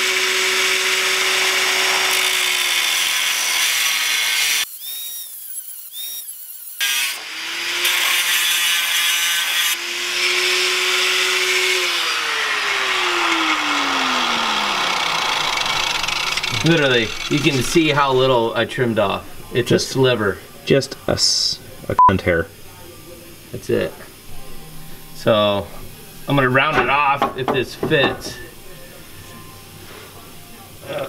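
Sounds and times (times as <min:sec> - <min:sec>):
angle grinder grinding steel: 0:00.0 - 0:20.2, 0:24.2 - 0:31.0.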